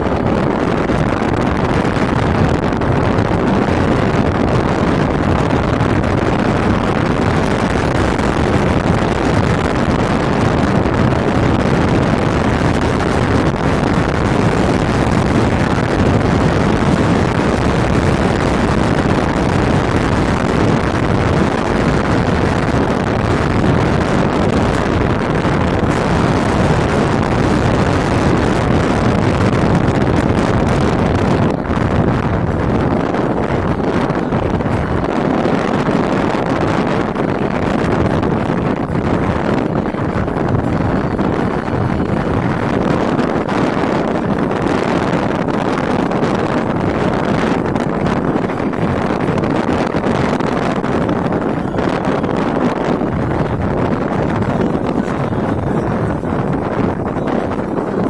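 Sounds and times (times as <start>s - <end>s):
wind and road noise: 0.0s - 58.0s
wind buffeting microphone: 0.0s - 58.0s.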